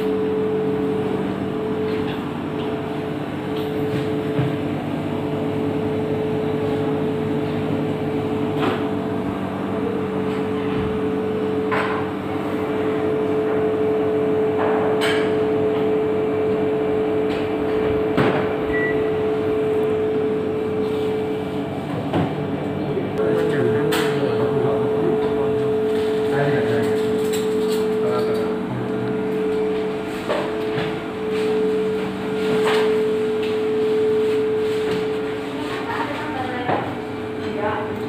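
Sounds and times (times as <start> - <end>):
cooling machinery humming: 0.0 - 38.0.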